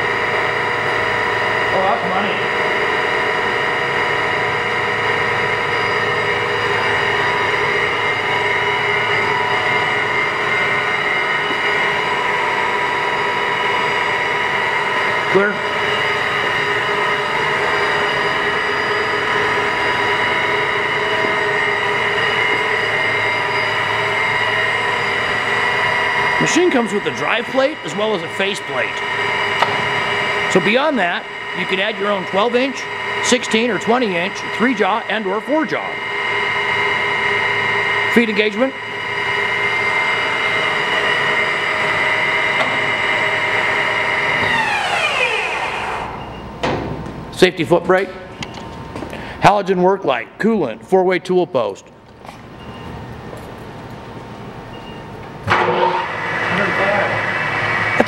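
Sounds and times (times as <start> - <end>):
lathe running with gear whine: 0.0 - 46.6, 47.2 - 58.0.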